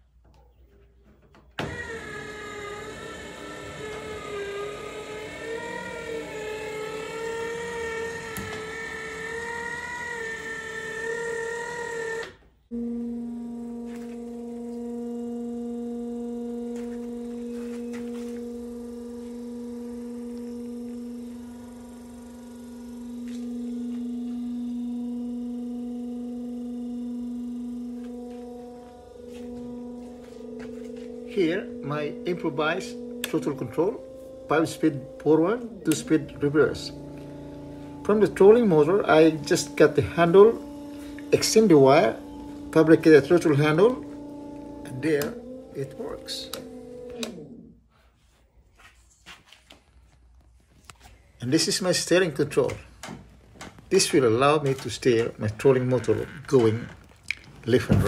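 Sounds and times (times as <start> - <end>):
electric motor humming: 1.5 - 47.9, 50.4 - 58.0
small electric motor whining: 1.6 - 48.2, 50.4 - 58.0.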